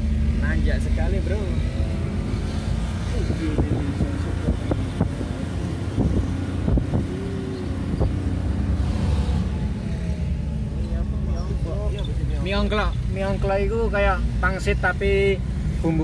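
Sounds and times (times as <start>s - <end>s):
car engine humming under load: 0.0s - 16.0s.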